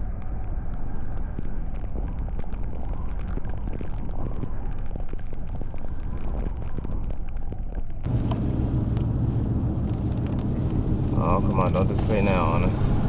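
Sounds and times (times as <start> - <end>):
vehicle rumble: 0.0 - 13.0
wind noise: 0.0 - 13.0.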